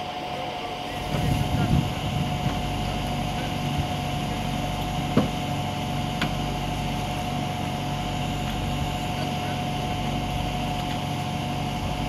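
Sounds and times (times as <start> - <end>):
thin constant whine: 0.0 - 12.0
vehicle engine idling: 0.0 - 12.0.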